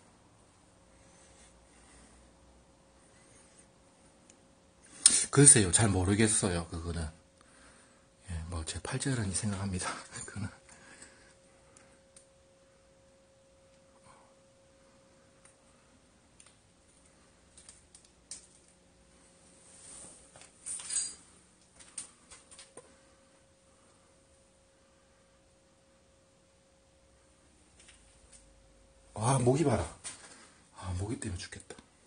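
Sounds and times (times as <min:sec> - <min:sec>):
faint high hum: 0:00.0 - 0:32.0.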